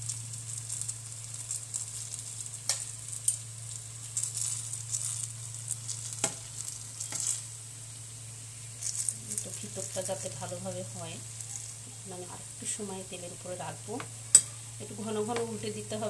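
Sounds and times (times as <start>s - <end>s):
oil crackling and sizzling: 0.0s - 16.0s.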